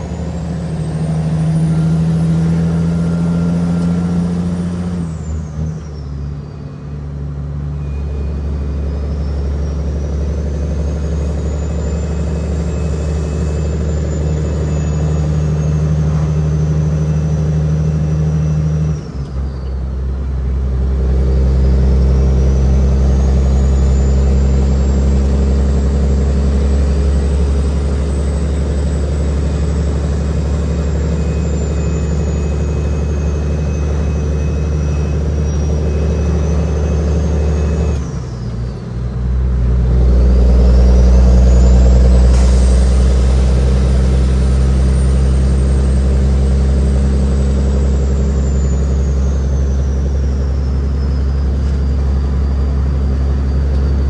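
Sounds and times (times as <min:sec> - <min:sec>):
high engine whistle: 0:00.0 - 0:19.8, 0:21.2 - 0:54.0
diesel truck engine pulling: 0:00.0 - 0:54.0.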